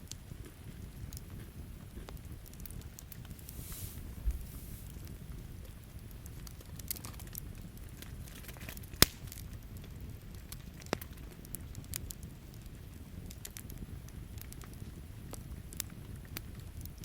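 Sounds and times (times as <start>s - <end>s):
campfire crackling: 0.0s - 17.0s
low background noise: 0.0s - 17.0s
sharp pops of fire: 0.0s - 17.0s.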